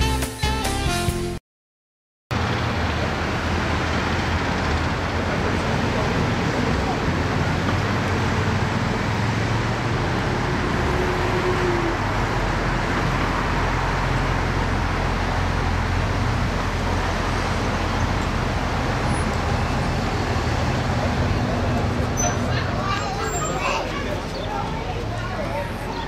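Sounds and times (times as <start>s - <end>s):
background street noise: 2.3s - 26.0s.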